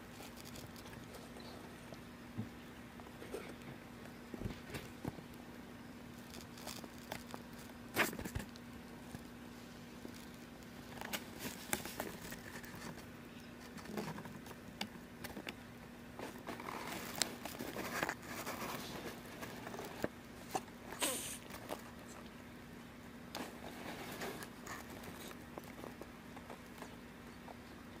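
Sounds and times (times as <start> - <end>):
faint clicks and rustles: 0.0 - 22.4, 23.3 - 28.0
steady low hum: 0.0 - 28.0.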